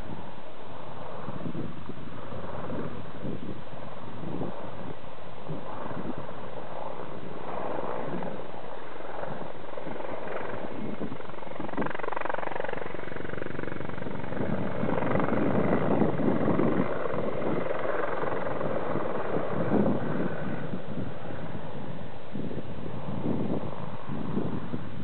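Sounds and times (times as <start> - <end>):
helicopter flying past low: 0.0 - 25.0.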